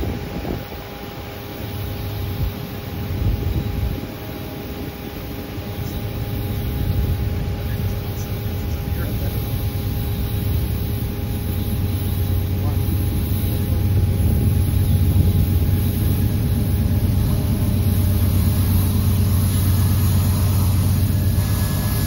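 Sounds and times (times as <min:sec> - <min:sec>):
diesel locomotive engines rumbling: 0:00.0 - 0:22.0.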